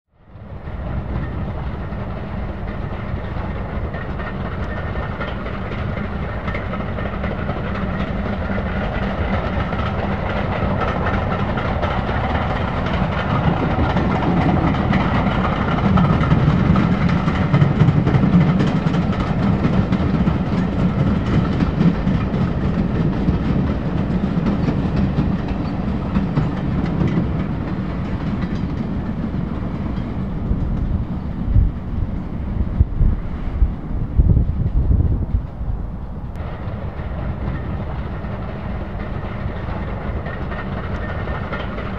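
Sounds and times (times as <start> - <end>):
steam locomotive passing: 0.2 - 41.9
wheels clattering over rails: 1.1 - 32.4, 36.4 - 41.9.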